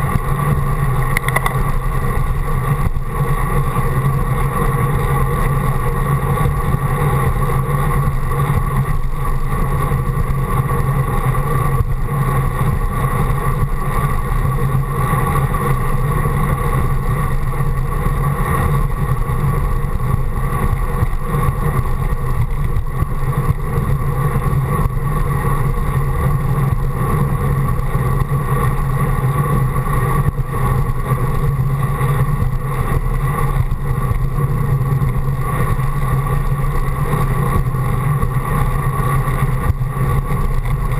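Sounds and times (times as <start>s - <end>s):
bicycle road noise: 0.0s - 40.9s
low hum: 0.0s - 40.9s.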